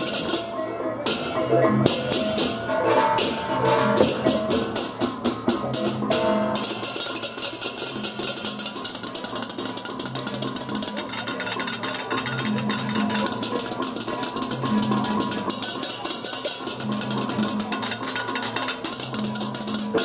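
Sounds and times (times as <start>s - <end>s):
drum strokes: 0.0s - 20.0s
hand cymbals clashing: 1.9s - 20.0s.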